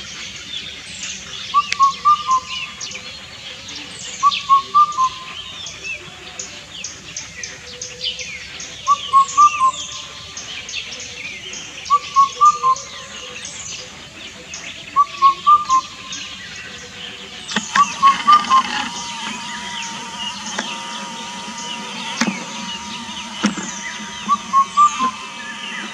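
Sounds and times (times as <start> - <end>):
cuckoo hooting song: 0.0 - 25.9
small birds chirping: 0.0 - 25.9.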